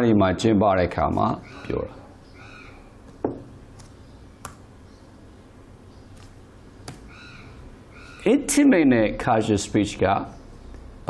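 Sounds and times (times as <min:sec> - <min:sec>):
faint background noise: 0:00.0 - 0:11.0.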